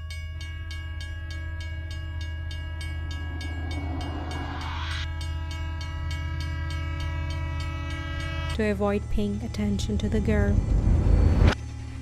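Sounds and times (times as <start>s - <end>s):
steady pitched tone: 0.0s - 11.6s.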